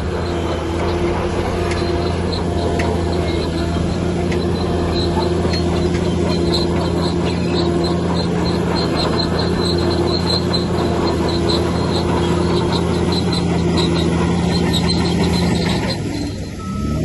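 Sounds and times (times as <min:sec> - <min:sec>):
heavy machine engine hum: 0:00.0 - 0:17.0
short high squeaks: 0:00.0 - 0:17.0.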